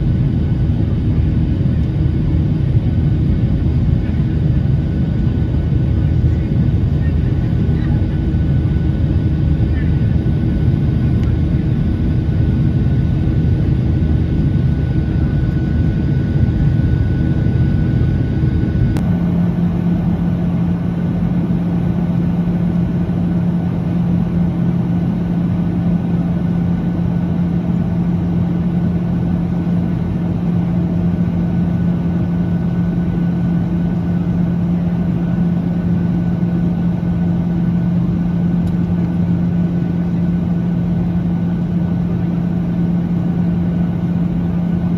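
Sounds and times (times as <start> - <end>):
low-toned cabin hum: 0.0 - 44.9.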